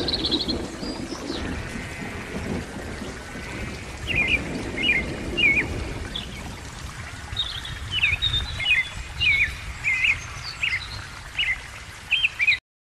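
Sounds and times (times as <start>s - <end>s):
small songbirds chirping: 0.0s - 12.6s.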